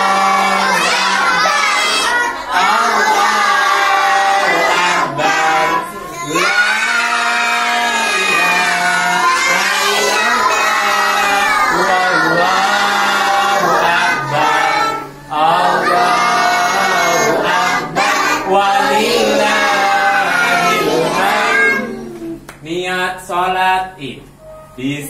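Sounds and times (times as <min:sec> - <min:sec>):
young children singing: 0:00.0 - 0:22.5.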